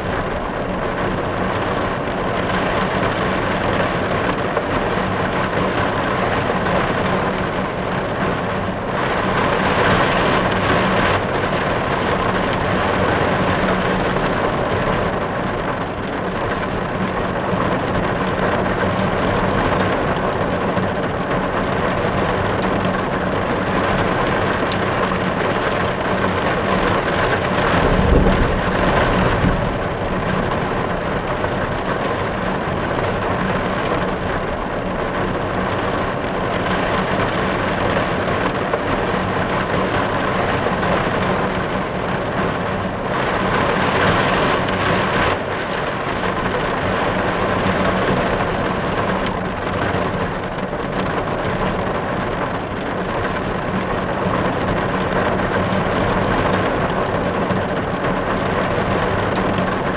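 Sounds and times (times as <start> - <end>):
heavy rain on a car roof: 0.0 - 59.9.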